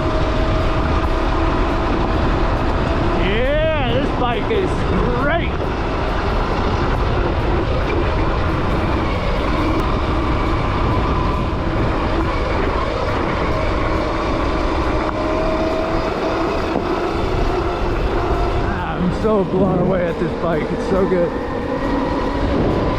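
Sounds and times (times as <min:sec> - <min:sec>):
wind and tyre rush: 0:00.0 - 0:22.9.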